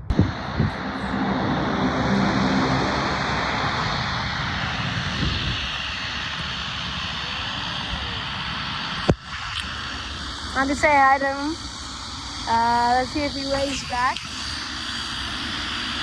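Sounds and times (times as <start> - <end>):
jet engines humming: 0.0 - 16.0.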